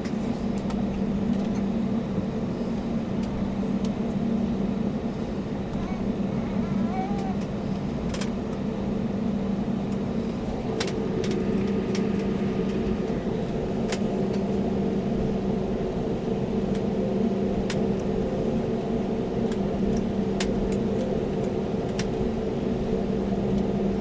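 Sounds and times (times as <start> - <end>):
airplane cabin engine hum: 0.0 - 24.0.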